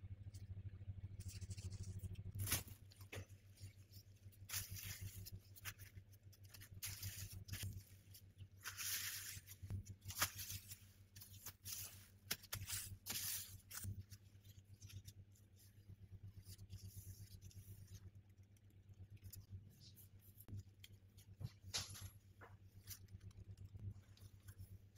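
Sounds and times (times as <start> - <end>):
steady low hum: 0.0 - 24.9
hands working dough on wood: 1.9 - 24.9.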